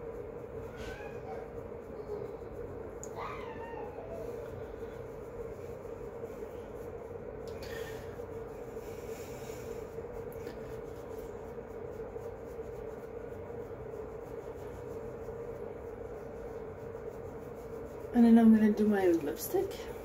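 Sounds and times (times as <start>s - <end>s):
makeup brush rubbing skin: 0.0s - 20.0s
room hum: 0.0s - 20.0s.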